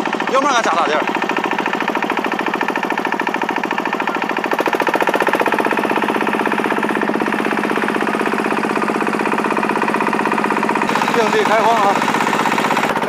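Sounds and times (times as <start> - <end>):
cultivator engine chugging: 0.0 - 13.0.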